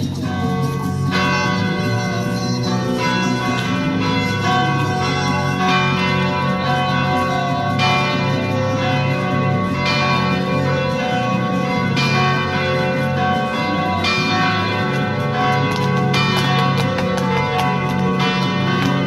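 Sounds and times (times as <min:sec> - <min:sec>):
carillon bells ringing: 0:00.0 - 0:19.0.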